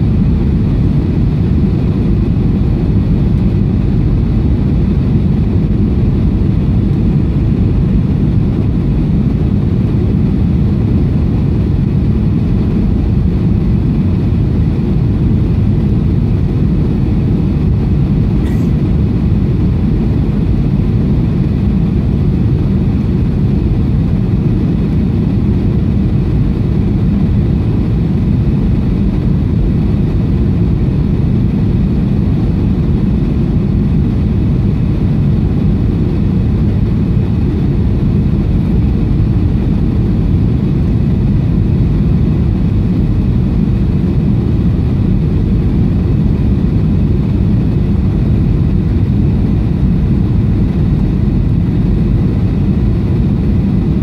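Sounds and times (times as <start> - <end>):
airplane cabin engine noise: 0.0 - 54.0.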